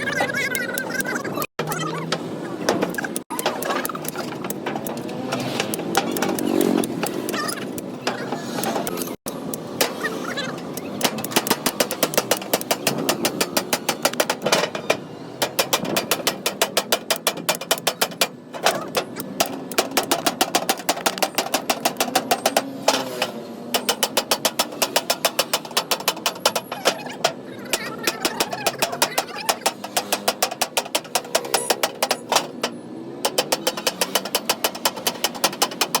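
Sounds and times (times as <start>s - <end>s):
rapid tapping strikes: 0.8s - 14.7s, 15.4s - 36.0s.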